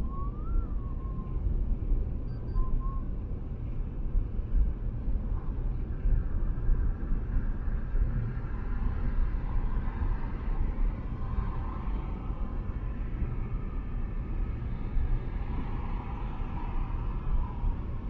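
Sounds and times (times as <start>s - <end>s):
wind noise: 0.0s - 18.0s.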